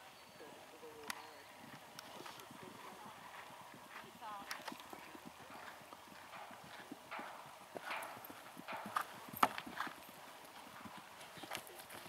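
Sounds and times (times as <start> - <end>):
horse hoofbeats on grass: 1.1 - 12.0.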